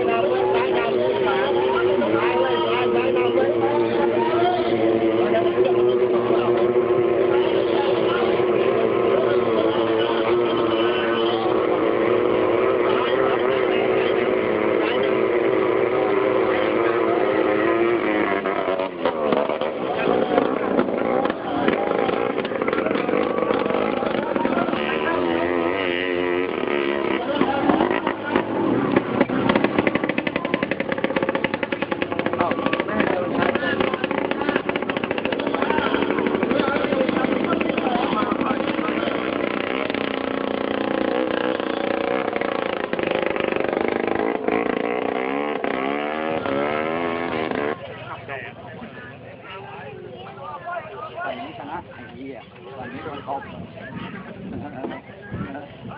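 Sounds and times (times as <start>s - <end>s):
racing boat engine crackling: 0.0s - 55.9s.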